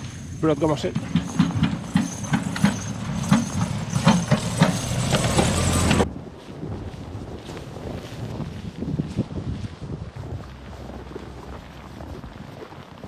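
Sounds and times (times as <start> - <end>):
low rumble: 0.0 - 13.0
footsteps crunching in snow: 2.5 - 13.0.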